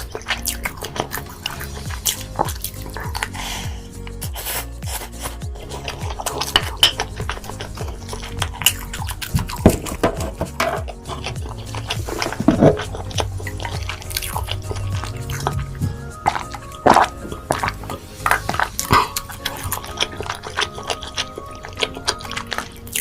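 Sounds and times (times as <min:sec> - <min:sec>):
background music: 0:00.0 - 0:23.0
wet chewing and slurping: 0:00.0 - 0:23.0.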